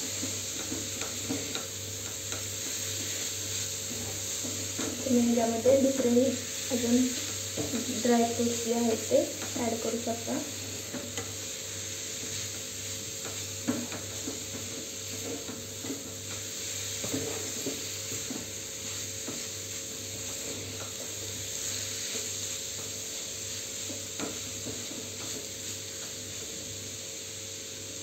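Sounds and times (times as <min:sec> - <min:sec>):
ghee sizzling: 0:00.0 - 0:28.0.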